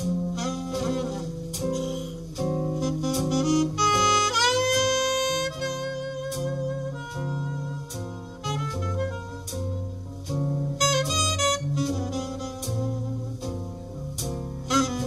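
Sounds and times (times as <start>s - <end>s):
alto saxophone melody: 0.0s - 15.0s
plucked double bass: 0.0s - 15.0s.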